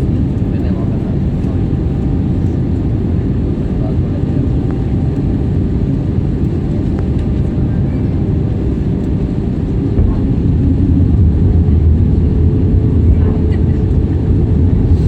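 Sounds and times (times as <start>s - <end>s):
jet airliner rumble: 0.0s - 15.0s.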